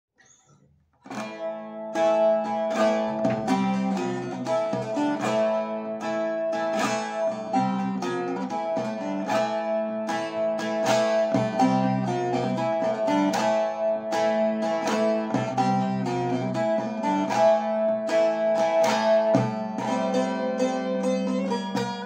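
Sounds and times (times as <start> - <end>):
long-necked lute picked melody: 1.0 - 22.0.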